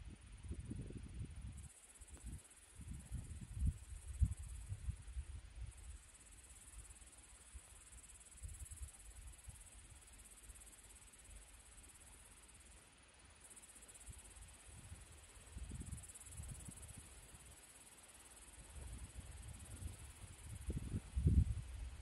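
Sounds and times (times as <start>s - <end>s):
crickets chirring: 0.4s - 22.0s.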